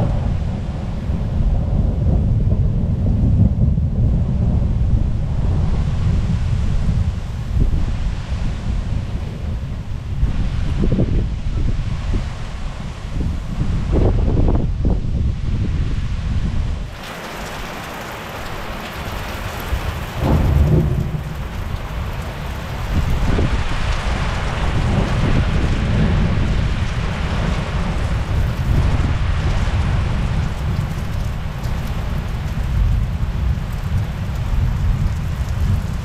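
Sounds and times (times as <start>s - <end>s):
thunder rumbling: 0.0s - 12.1s, 16.4s - 36.0s
steady rain: 0.0s - 36.0s.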